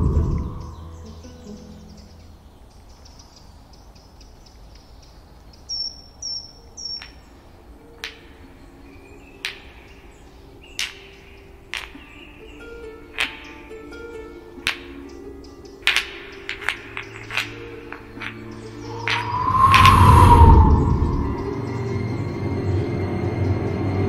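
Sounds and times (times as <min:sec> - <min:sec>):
bird chirping: 0:00.0 - 0:23.5.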